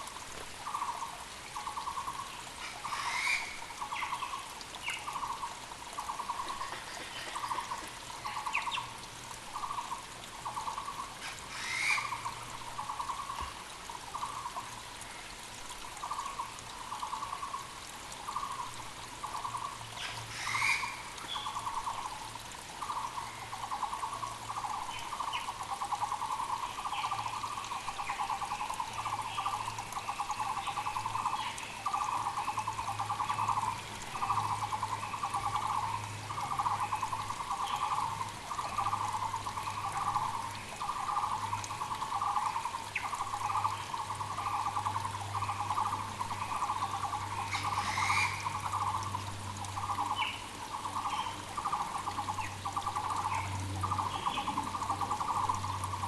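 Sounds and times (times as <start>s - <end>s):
creek rushing: 0.0s - 56.0s.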